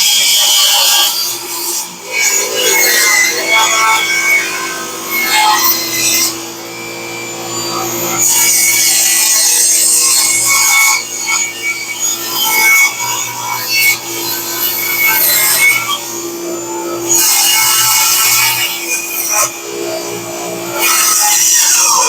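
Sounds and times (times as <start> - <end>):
table saw motor humming: 0.0 - 22.0.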